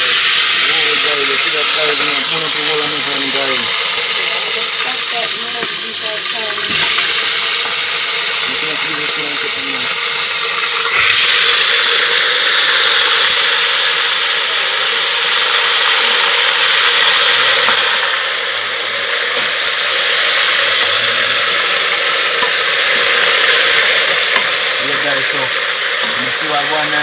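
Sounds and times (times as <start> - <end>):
meat sizzling in hot oil: 0.0 - 27.0.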